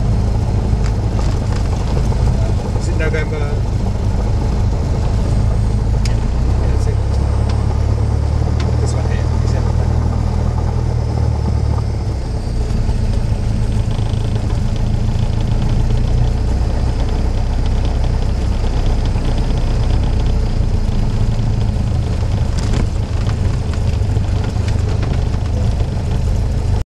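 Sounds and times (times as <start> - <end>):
aircraft engine idling: 0.0 - 26.8.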